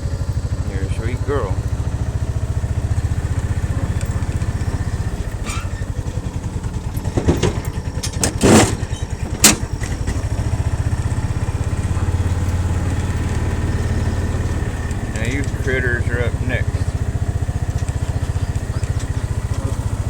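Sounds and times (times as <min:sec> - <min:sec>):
small engine idling: 0:00.0 - 0:20.0
sharp knocks and clanks: 0:02.8 - 0:20.0.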